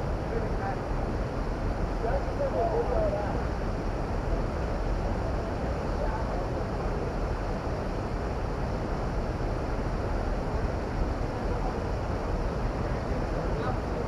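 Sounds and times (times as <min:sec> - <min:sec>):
rushing noise with low rumble: 0:00.0 - 0:14.0.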